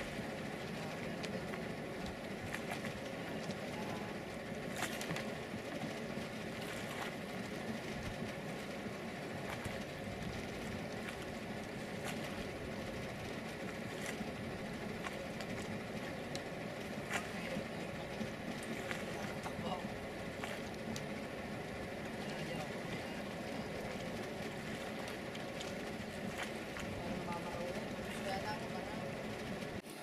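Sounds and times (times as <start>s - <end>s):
boat motor humming: 0.0s - 30.0s
rushing water: 0.0s - 30.0s.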